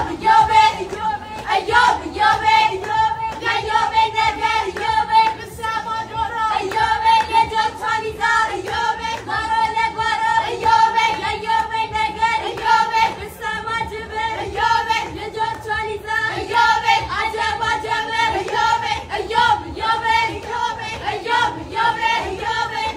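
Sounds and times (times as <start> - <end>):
girls singing together: 0.0 - 22.9
steady beat: 0.0 - 22.9.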